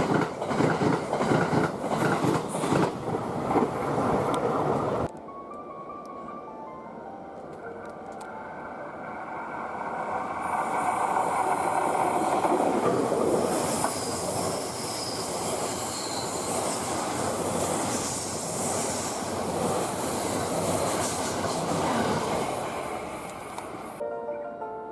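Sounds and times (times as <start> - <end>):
train wheels rumbling on rails: 0.0 - 5.1, 9.1 - 24.0.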